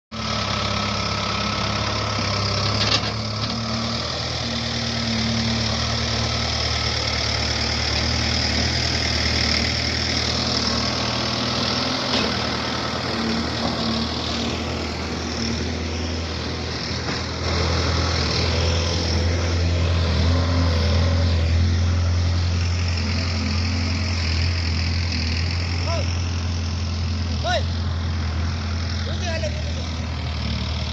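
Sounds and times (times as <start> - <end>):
diesel engine running: 0.1 - 30.9.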